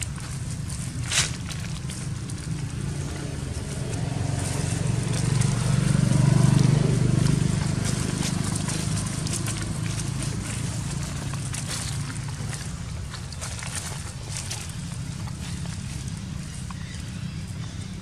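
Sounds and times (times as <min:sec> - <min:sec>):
dry leaves crackling: 0:00.0 - 0:18.0
passing motor vehicle engine hum: 0:00.0 - 0:18.0.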